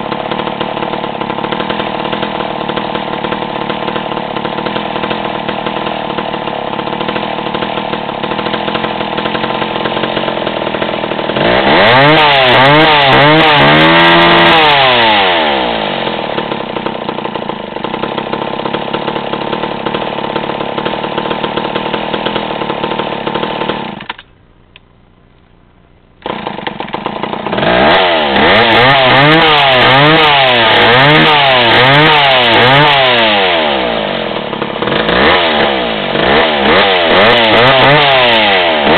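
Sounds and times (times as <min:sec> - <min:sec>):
chainsaw idling and revving: 0:00.0 - 0:24.9, 0:26.1 - 0:38.9.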